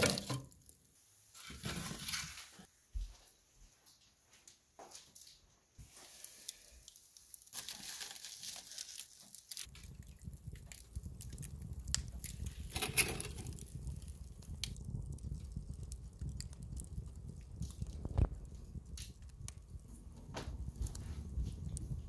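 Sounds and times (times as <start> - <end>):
wood fire crackling: 0.0 - 2.7, 5.2 - 22.0.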